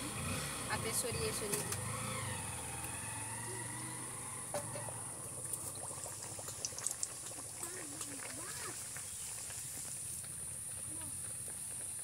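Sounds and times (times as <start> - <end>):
hot oil sizzling and bubbling: 0.0 - 12.0.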